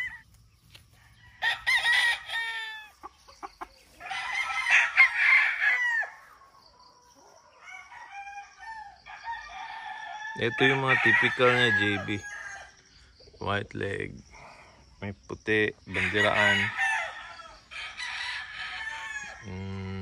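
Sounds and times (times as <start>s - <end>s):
roosters crowing: 0.0s - 12.9s, 15.8s - 20.0s.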